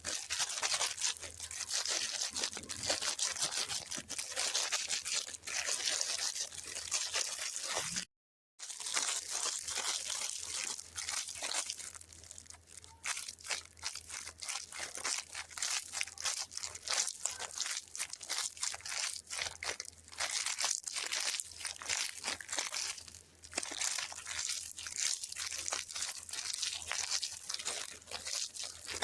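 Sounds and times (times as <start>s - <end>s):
sweet wrapper crinkling: 0.0s - 29.0s.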